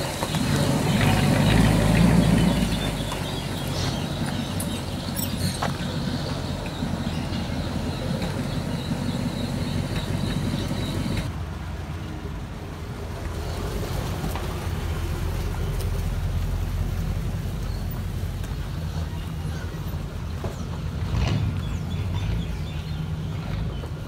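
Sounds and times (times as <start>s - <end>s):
car engines rumbling: 0.0s - 24.0s.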